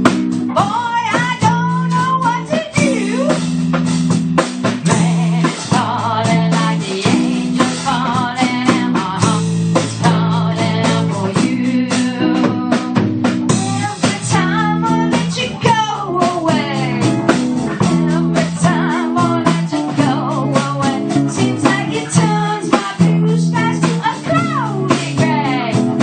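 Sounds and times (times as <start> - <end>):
bending lead guitar line: 0.0 - 26.0
blues-rock band playing: 0.0 - 26.0
drum rimshots: 0.0 - 26.0.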